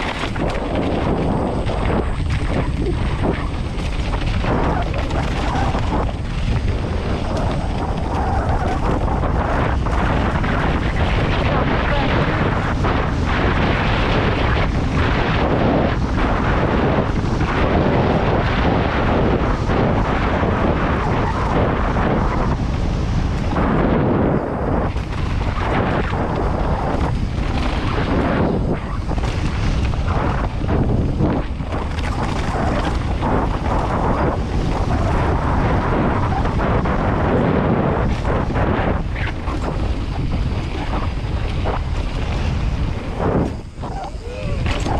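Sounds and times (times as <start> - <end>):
bike tyres rolling on trail: 0.0 - 44.9
wind rushing on microphone: 0.0 - 44.9.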